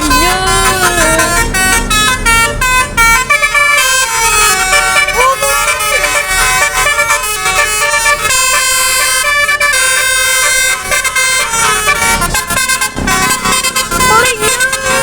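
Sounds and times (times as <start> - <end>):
musical air horn chords: 0.0 - 15.0.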